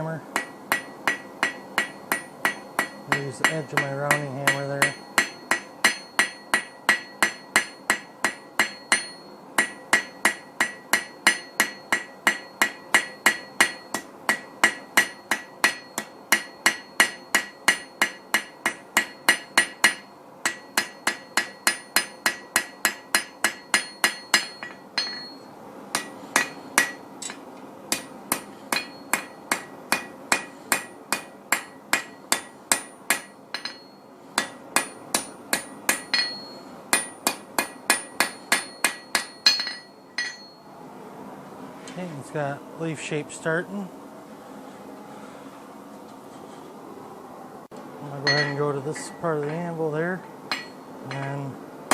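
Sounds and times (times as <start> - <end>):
hammer striking hot steel on anvil: 0.3 - 40.6, 48.2 - 51.9.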